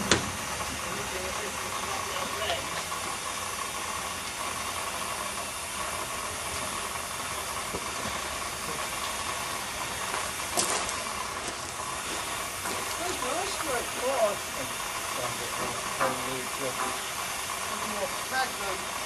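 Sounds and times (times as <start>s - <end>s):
steam hissing: 0.0s - 19.0s.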